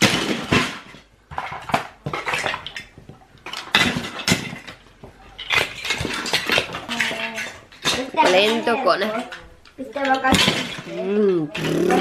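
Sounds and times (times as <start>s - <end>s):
plastic toy blocks clattering: 0.0s - 12.0s.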